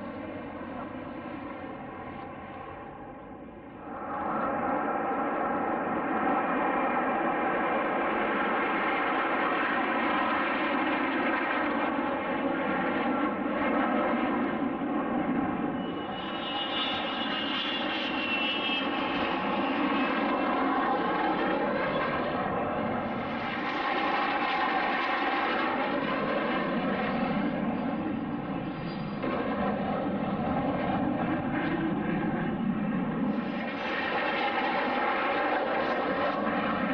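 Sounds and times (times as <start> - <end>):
aircraft engines droning: 0.0 - 36.9.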